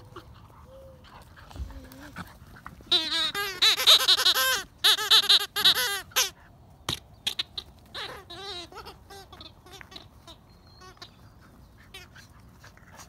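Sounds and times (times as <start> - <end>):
puppies yipping and squealing: 0.0 - 6.4, 7.3 - 13.0.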